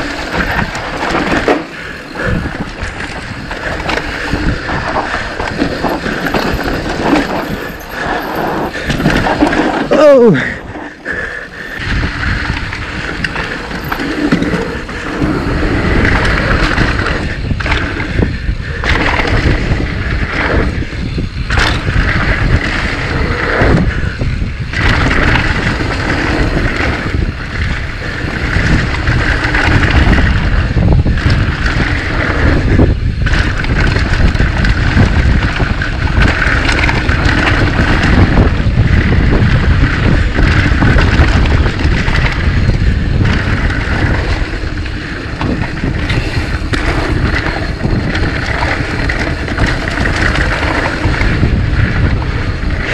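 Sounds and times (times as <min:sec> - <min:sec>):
bike rattling over rough trail: 0:00.0 - 0:52.9
wind rushing over microphone: 0:00.0 - 0:52.9.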